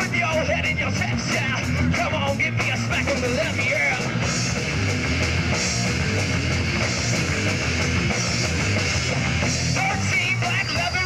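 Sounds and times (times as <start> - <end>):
drum kit with cymbals: 0.0 - 11.0
electric guitar: 0.0 - 11.0.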